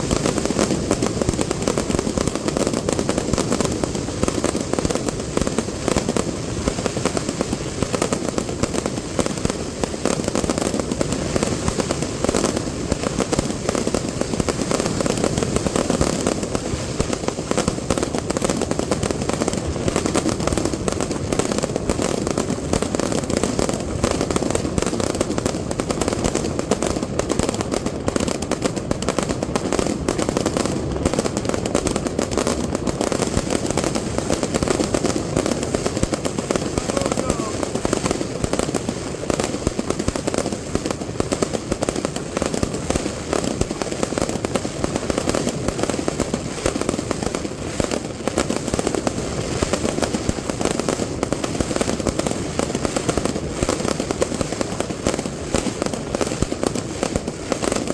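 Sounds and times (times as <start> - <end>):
fireworks bangs and crackles: 0.0 - 57.9.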